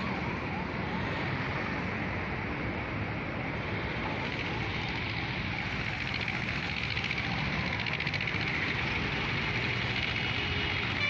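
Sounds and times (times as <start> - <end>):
road traffic noise with hiss: 0.0 - 11.0.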